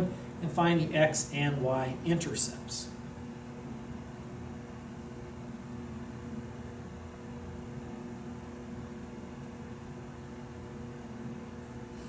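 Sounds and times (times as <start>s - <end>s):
constant low hum: 0.0s - 12.0s
fan running: 0.0s - 12.0s.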